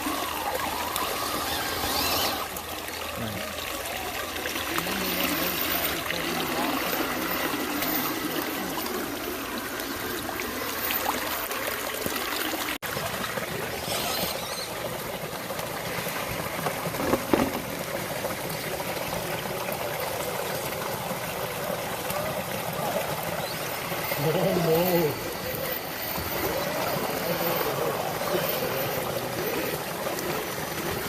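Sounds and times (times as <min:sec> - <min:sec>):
running water trickle: 0:00.0 - 0:31.0.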